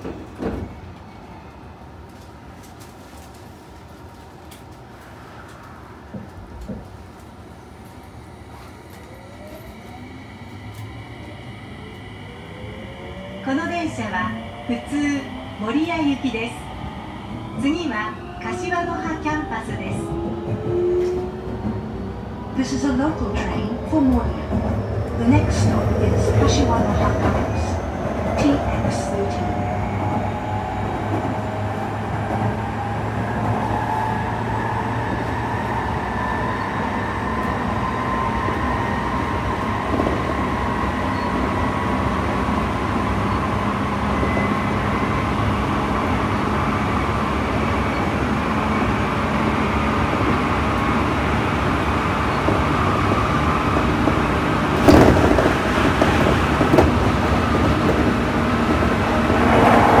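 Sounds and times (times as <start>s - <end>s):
train wheels rumbling on rails: 0.0s - 1.0s, 2.0s - 60.0s.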